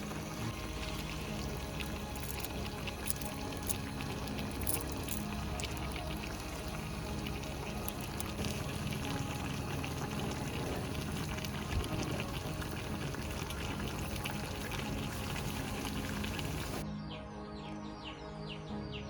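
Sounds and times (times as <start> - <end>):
moving water: 0.0 - 16.8
faint background music: 0.0 - 19.0.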